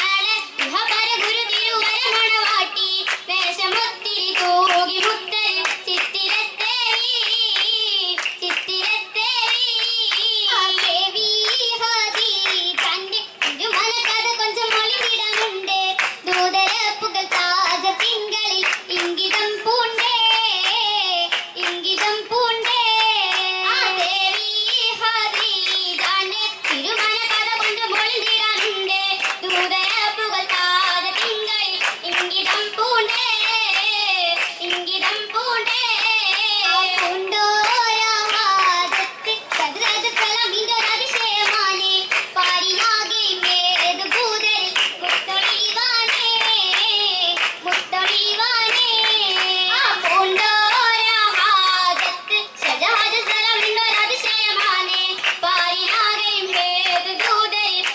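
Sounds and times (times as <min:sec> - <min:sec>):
rhythmic hand clapping: 0:00.0 - 0:57.9.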